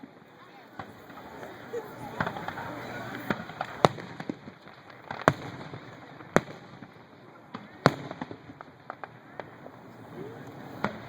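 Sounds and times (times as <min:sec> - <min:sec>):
fireworks loud bangs: 0:00.0 - 0:11.0
small firework pops: 0:00.0 - 0:11.0.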